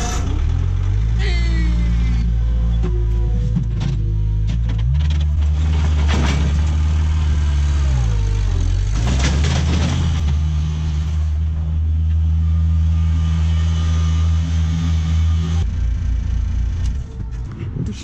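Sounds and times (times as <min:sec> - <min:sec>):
loader engine running: 0:00.0 - 0:18.0.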